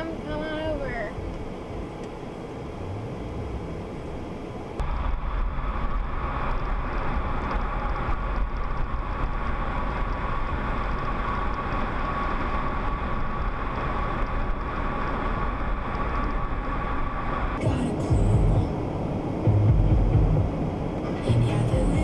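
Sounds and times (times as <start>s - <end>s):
tyre and wind rumble: 0.0s - 22.0s.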